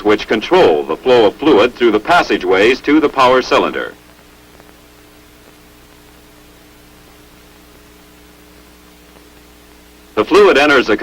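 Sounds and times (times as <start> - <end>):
low electrical hum: 0.0 - 11.0
soundtrack hiss: 0.0 - 11.0.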